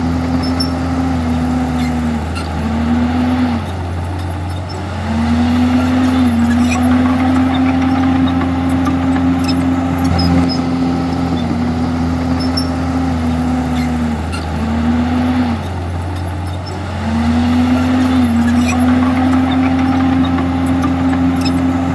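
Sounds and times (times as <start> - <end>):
bulldozer diesel engine under load: 0.0 - 21.9.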